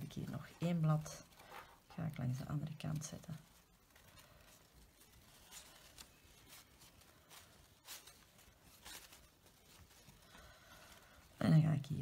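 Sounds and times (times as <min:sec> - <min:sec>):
fabric rustling: 0:00.0 - 0:12.0.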